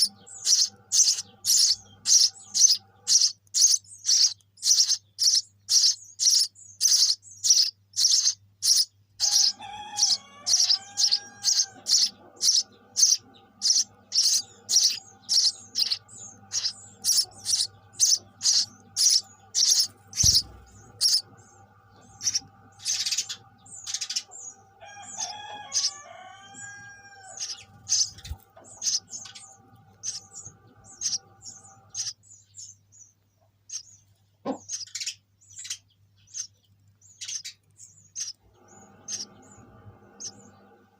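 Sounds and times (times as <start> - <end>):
faint steady hum: 0.0 - 40.9
sparrow chirping: 0.0 - 40.9.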